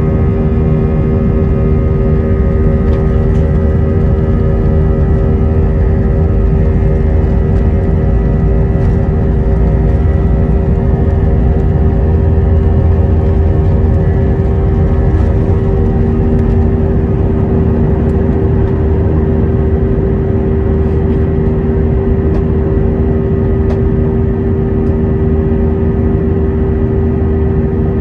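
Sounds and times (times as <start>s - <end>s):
jet engines droning in cabin: 0.0s - 28.0s.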